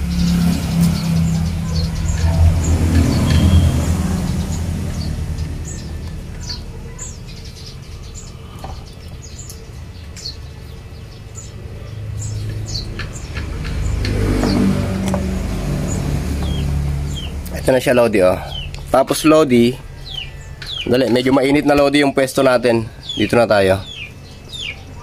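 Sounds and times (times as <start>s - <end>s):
small birds chirping: 0.0s - 25.0s
vehicle engine passing: 0.0s - 25.0s.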